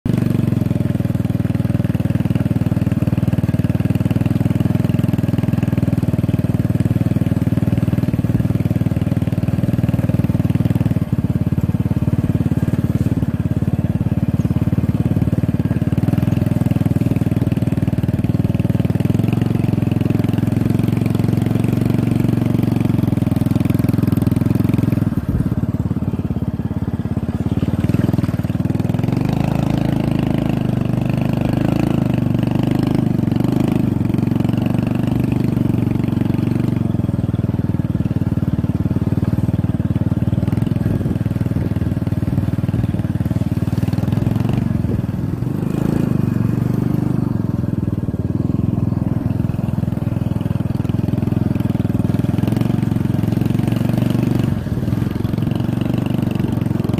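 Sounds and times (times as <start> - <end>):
small motorcycle engine running: 0.1 - 56.9.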